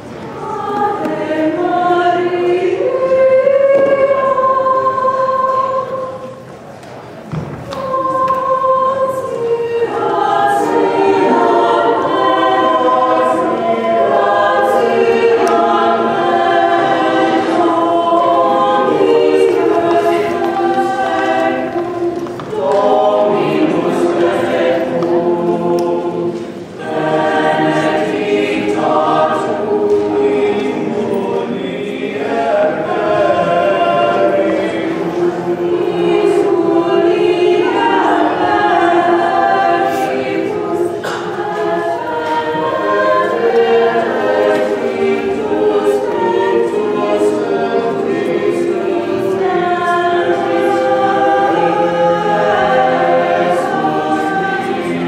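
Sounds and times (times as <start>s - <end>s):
mixed choir singing a cappella: 0.0s - 55.0s.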